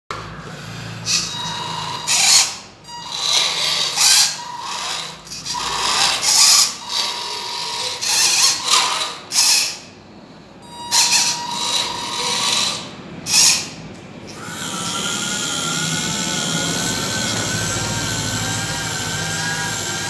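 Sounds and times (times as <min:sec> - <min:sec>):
electric motor and gearbox whining: 0:00.1 - 0:09.8, 0:10.6 - 0:20.0.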